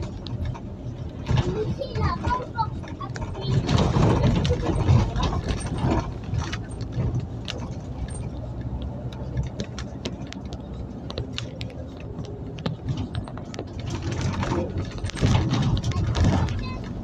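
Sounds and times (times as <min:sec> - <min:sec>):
bus engine and road rumble: 0:00.0 - 0:17.0
clicks and rattles: 0:00.0 - 0:17.0.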